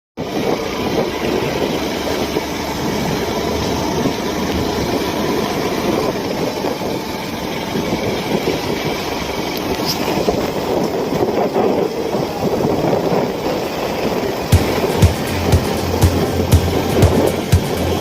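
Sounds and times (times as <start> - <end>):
motorcycle engine running: 0.2 - 18.0
road and wind noise: 0.2 - 18.0.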